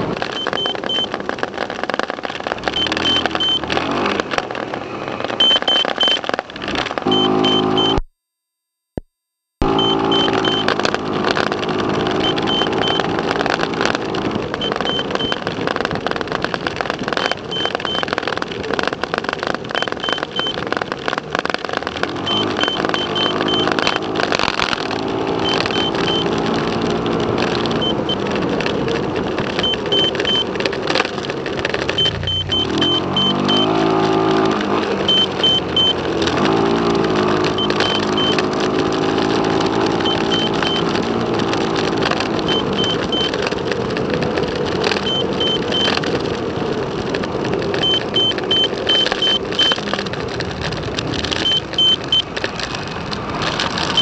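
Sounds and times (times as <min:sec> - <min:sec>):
car engine accelerating: 0:00.0 - 0:08.0, 0:09.6 - 0:18.5, 0:19.2 - 0:54.0
road noise: 0:00.0 - 0:08.1, 0:09.6 - 0:54.0.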